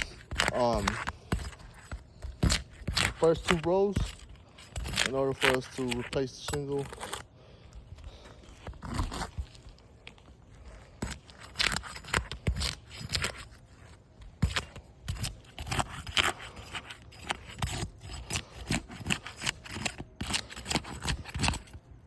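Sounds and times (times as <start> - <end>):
scraping and crackling shingles: 0.0 - 22.0.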